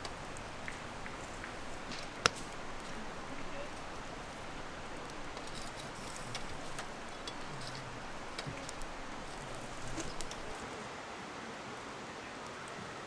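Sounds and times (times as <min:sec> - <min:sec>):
campfire crackling and popping: 0:00.0 - 0:10.8.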